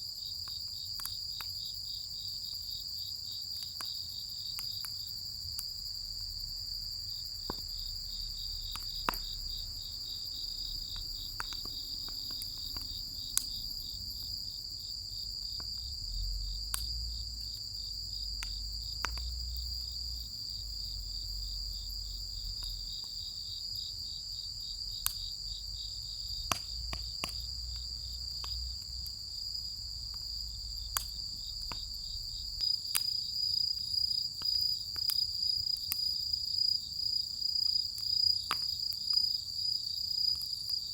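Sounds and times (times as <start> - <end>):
insects chirring: 0.0 - 40.9
firewood crackling and popping: 0.3 - 1.8, 2.4 - 23.9, 24.6 - 39.5.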